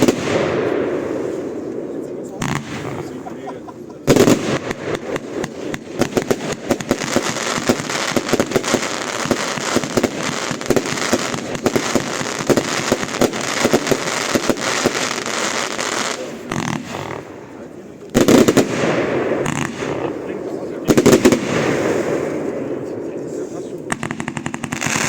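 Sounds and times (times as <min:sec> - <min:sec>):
fireworks cracking and popping: 0:00.0 - 0:25.0.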